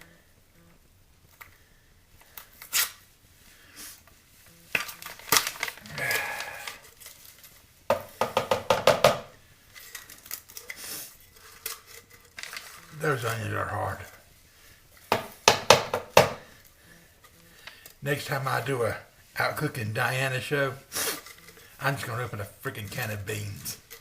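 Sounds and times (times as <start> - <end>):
crinkling: 0.0 - 8.2, 9.4 - 15.5, 16.4 - 24.0.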